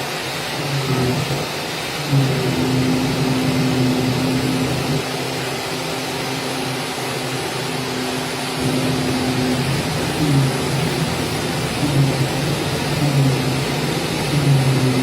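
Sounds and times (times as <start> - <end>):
cutting machine humming: 0.0 - 15.0
vacuum blower hiss: 0.0 - 15.0.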